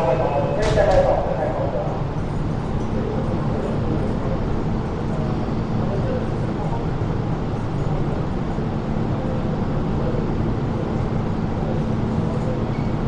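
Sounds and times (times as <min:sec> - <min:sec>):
station ventilation noise: 0:00.0 - 0:13.0
train humming and rumbling: 0:00.0 - 0:13.0.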